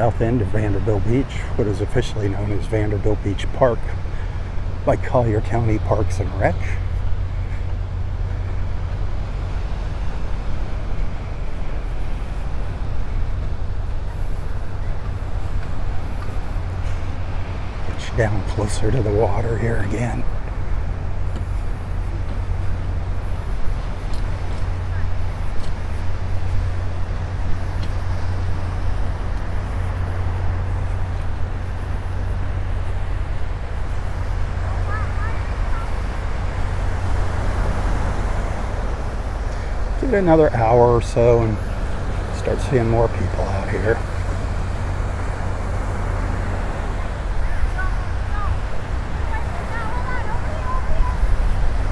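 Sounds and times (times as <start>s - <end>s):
small waves breaking: 0.0s - 51.9s
small surf hissing: 6.2s - 51.9s.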